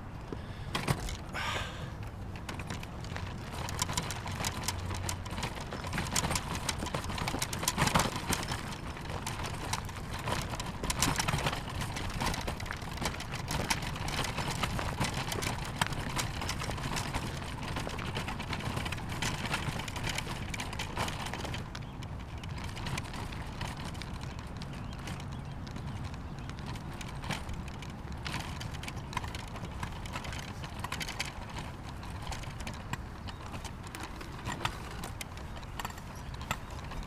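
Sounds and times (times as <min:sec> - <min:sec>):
footsteps crunching on a trail: 0:00.0 - 0:37.0.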